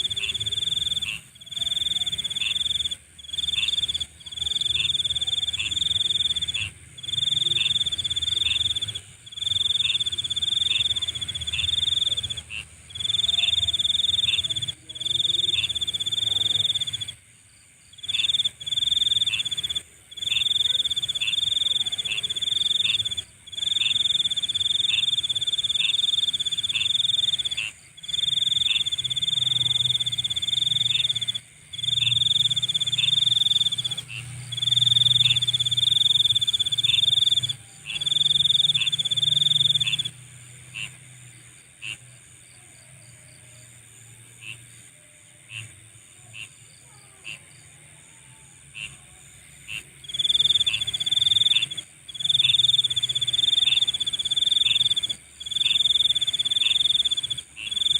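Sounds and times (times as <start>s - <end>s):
high insect drone: 0.0s - 57.9s
insect chirps: 0.0s - 57.9s
insect trilling song: 0.0s - 57.9s.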